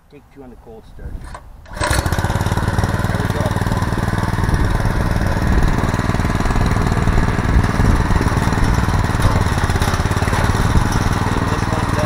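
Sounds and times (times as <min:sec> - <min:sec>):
tiller gasoline engine running: 0:01.3 - 0:12.0.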